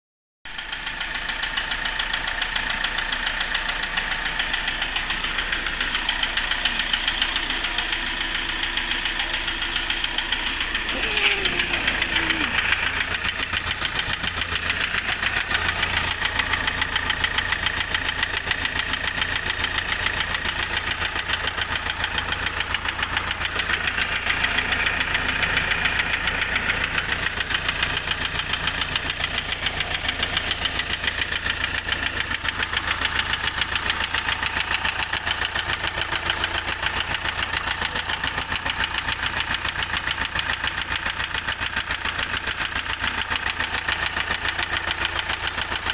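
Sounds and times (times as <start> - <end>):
car engine knocking: 0.5 - 45.9.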